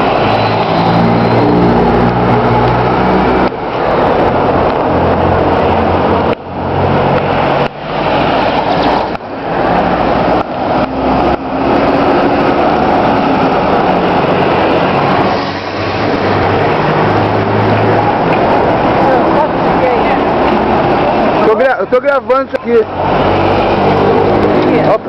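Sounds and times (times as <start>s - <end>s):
street and roadworks noise: 0.0s - 25.0s.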